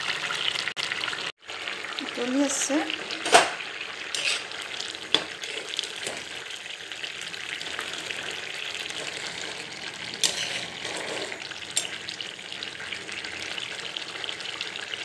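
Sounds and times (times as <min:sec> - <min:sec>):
curry boiling in a pan: 0:00.0 - 0:15.0.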